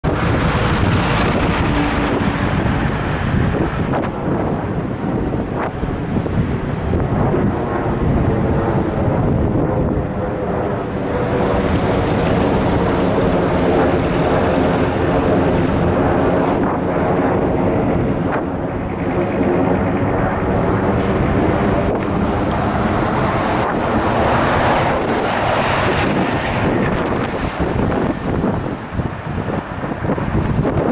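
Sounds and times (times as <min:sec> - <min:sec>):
wind on microphone: 0:00.0 - 0:30.9.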